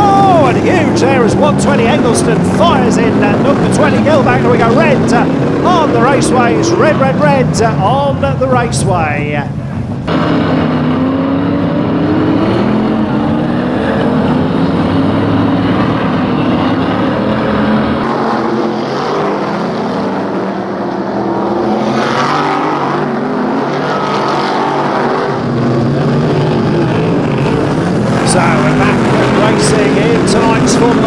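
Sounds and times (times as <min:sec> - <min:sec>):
racing car engines: 0:00.0 - 0:31.0.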